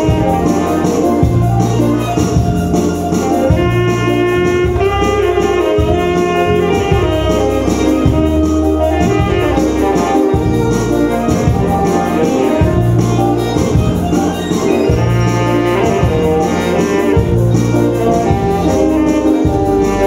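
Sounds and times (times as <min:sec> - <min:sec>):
bass line: 0:00.0 - 0:20.0
electronic keyboard accompaniment: 0:00.0 - 0:20.0
programmed drum beat: 0:00.0 - 0:20.0
saxophone melody: 0:00.0 - 0:20.0.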